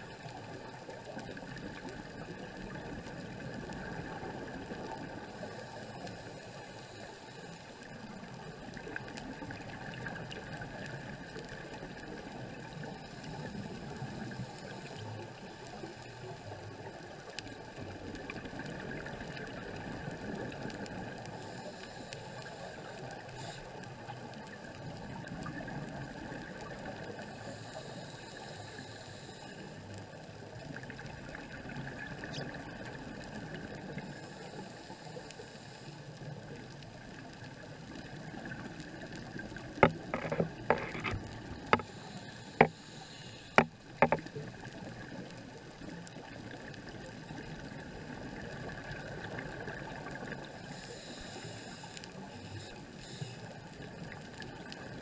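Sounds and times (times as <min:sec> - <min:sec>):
regulator bubbles hissing: 0:00.0 - 0:55.0.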